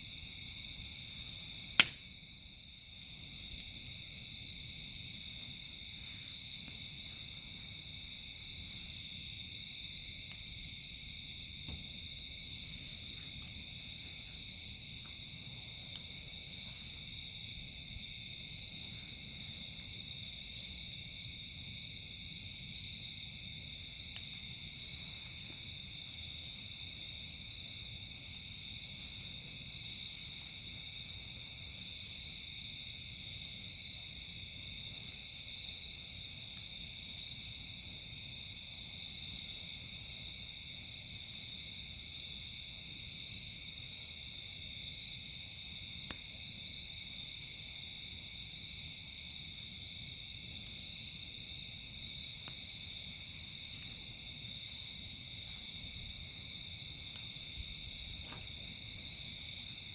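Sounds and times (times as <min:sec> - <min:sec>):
campfire crackling: 0:00.0 - 0:59.9
crickets and night insects chirping: 0:00.0 - 0:59.9
high-pitched insect trills: 0:00.0 - 0:59.9
campfire popping: 0:00.5 - 0:59.9.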